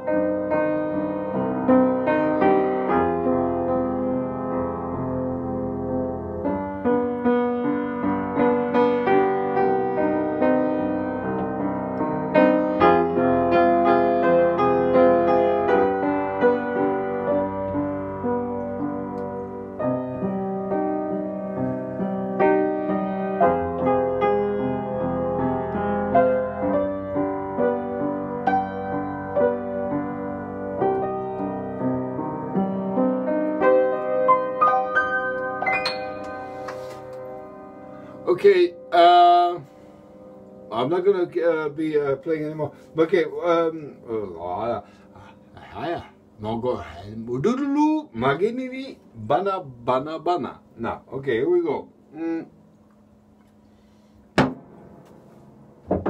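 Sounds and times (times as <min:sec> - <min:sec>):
upright piano playing chords: 0:00.0 - 0:53.4.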